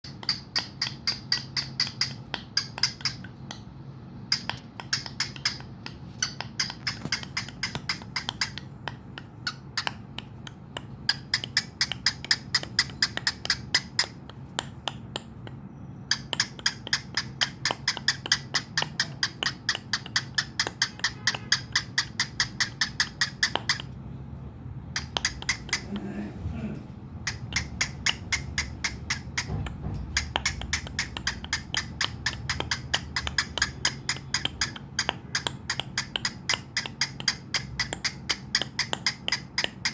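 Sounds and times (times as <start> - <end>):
rapid tongue clicks: 0.1 - 24.0, 25.0 - 26.2, 27.2 - 29.5, 30.1 - 39.9.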